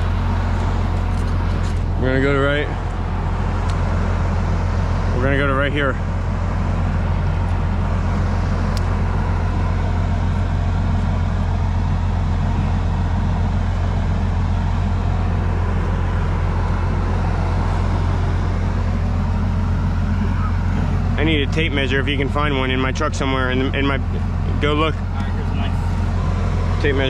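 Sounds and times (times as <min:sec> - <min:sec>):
engine droning: 0:00.0 - 0:27.0.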